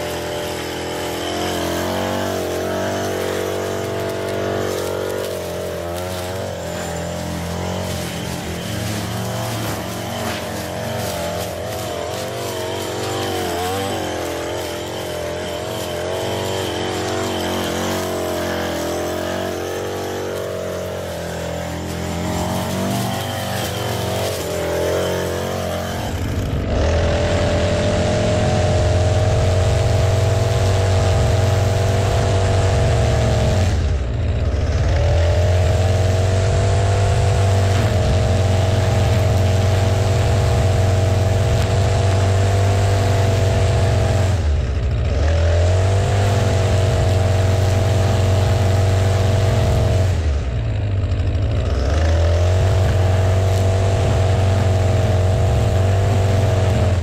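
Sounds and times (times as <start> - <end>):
string trimmer cutting grass: 0.0 - 57.0.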